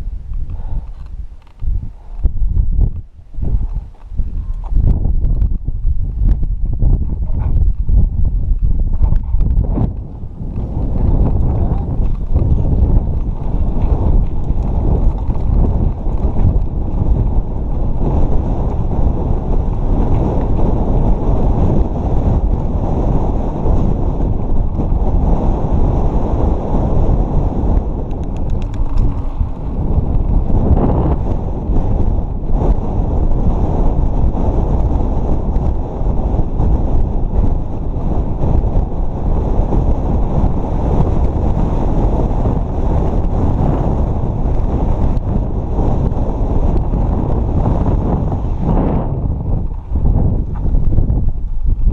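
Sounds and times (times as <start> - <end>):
tyre and trail noise: 0.0 - 51.9
wind rumble on microphone: 0.0 - 51.9.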